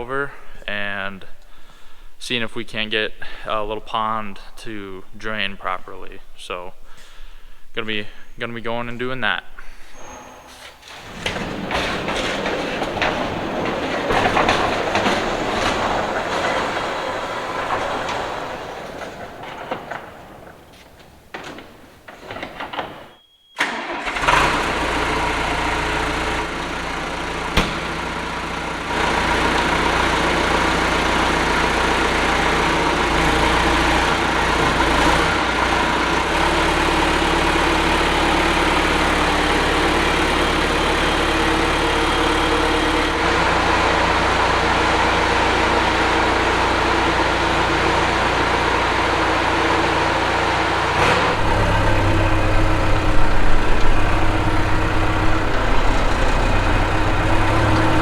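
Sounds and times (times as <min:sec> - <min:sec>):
diesel engine starting and running: 0:00.0 - 0:58.0.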